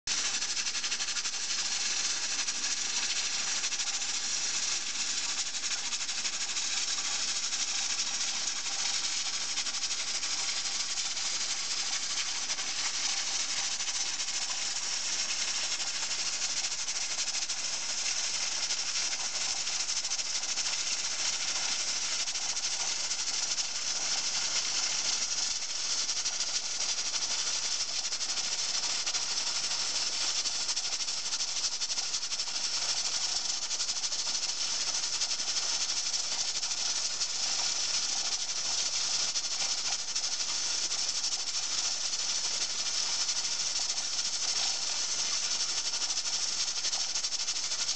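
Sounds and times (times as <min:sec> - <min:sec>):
pressure cooker hissing rattle: 0:00.1 - 0:47.9.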